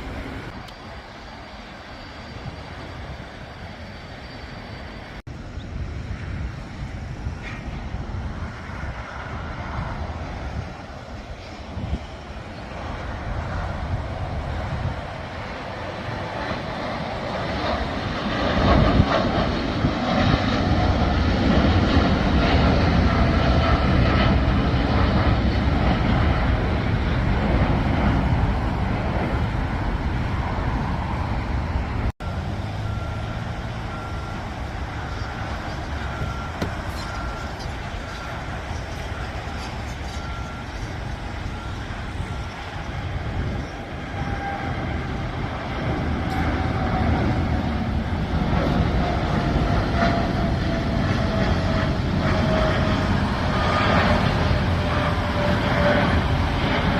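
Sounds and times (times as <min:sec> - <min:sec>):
jet airliner taking off: 0:00.0 - 0:56.9.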